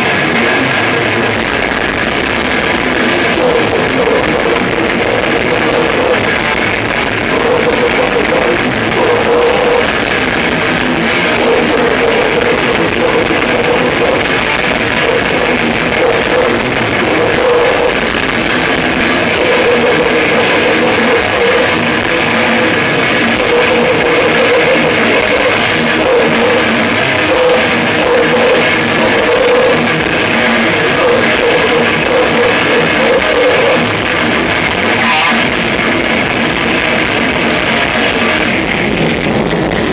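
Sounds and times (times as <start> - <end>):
death metal band playing live: 0.0 - 39.9.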